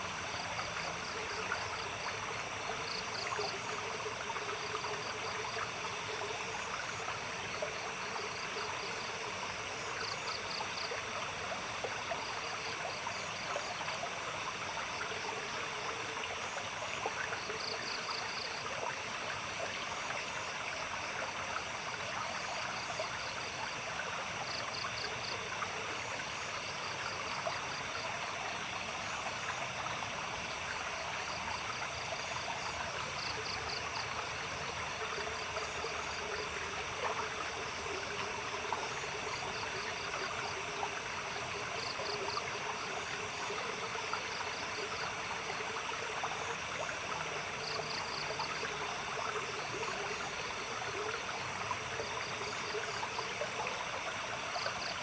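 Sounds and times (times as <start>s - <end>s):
night insects chirping: 0.0s - 55.0s
stream water flowing: 0.0s - 55.0s.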